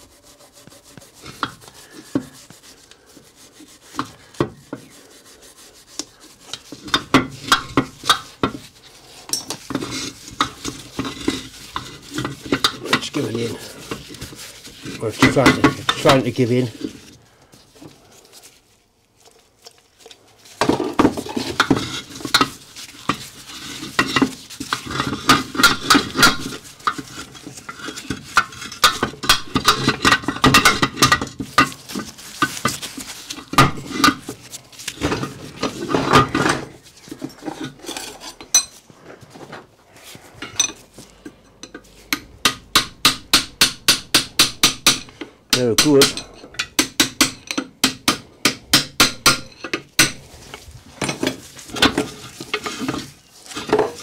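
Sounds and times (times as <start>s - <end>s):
steam engine parts clinking and scraping: 5.9s - 18.6s, 19.2s - 54.0s.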